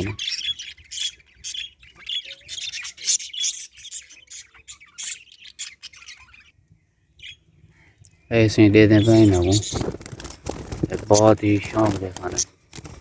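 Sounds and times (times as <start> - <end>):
budgerigars chattering and squawking: 0.0 - 10.0, 10.8 - 12.4.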